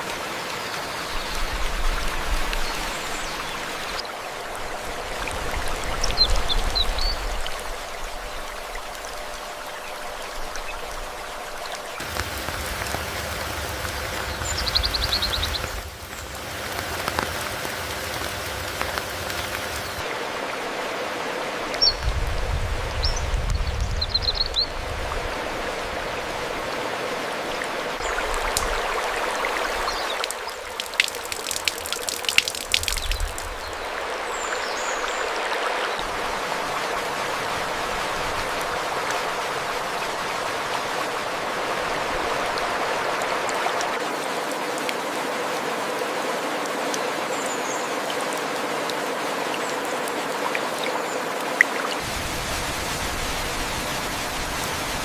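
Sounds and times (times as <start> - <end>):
sharp water drips: 0.0 - 20.2, 21.6 - 55.0
stream flowing: 0.0 - 55.0.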